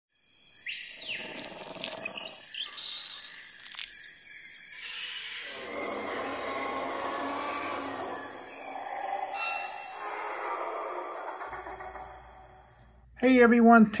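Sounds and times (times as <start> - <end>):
steady jungle noise: 0.1 - 13.2
bird calls and chirps: 0.2 - 12.9.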